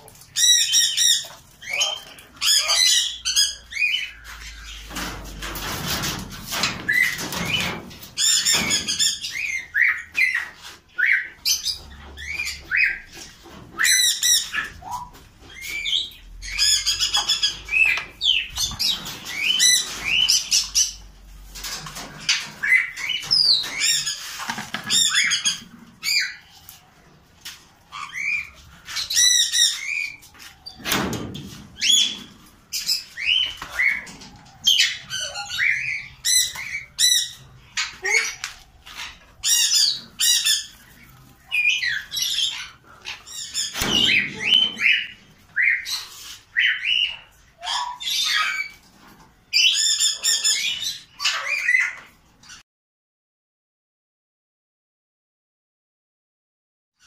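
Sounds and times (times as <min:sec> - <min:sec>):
parrots squawking and chirping: 0:00.0 - 0:52.6.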